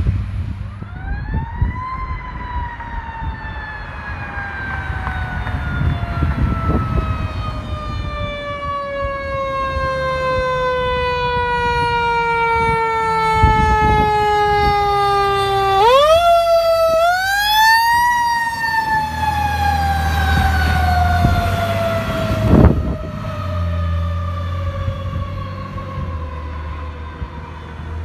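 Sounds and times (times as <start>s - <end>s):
truck engine rumbling: 0.0s - 28.0s
fire engine siren winding down: 0.7s - 28.0s.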